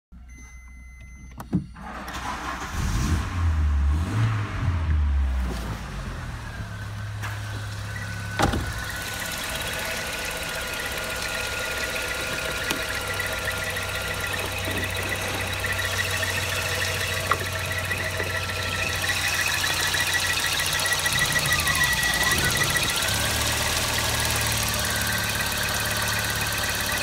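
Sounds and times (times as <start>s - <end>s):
car engine starting and idling: 0.2s - 27.0s.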